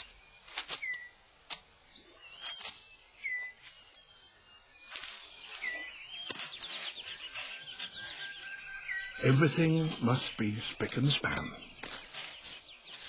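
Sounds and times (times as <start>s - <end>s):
whistled bird calls: 0.0s - 1.2s, 1.9s - 13.0s
rustles: 0.0s - 13.0s.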